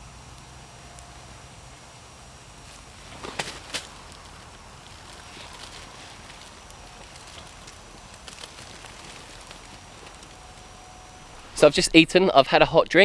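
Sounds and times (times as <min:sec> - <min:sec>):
campfire crackling: 0:00.0 - 0:13.0
fire snaps and pops: 0:00.1 - 0:11.6.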